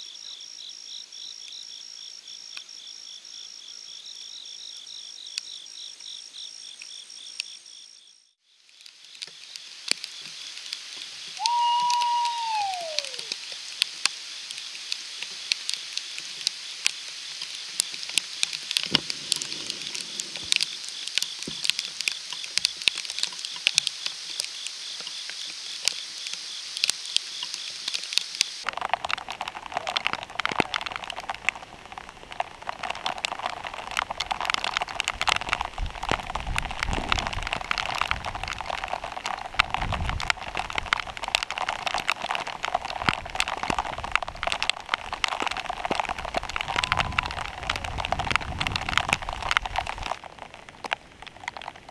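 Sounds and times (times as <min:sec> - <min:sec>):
raindrops ticking on camera: 0:08.5 - 0:51.9
heavy rain pattering: 0:08.6 - 0:51.9.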